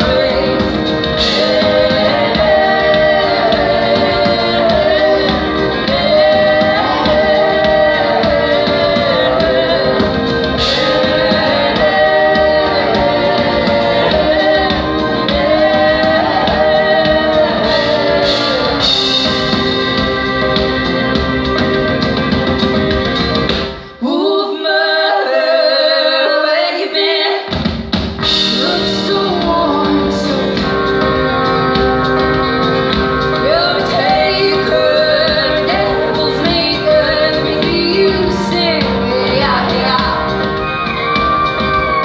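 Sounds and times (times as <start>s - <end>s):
woman singing: 0.0s - 21.2s, 23.8s - 27.6s, 28.2s - 40.6s
live folk-rock band: 0.0s - 23.9s, 27.5s - 42.0s.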